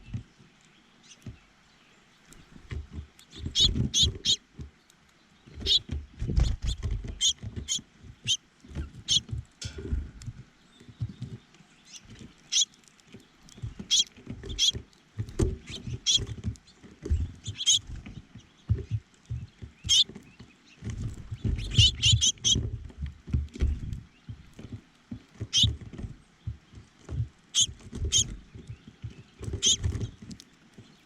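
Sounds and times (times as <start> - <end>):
small birds chirping: 0.0 - 31.0
low bumps and rustling: 5.4 - 12.5, 13.1 - 31.0.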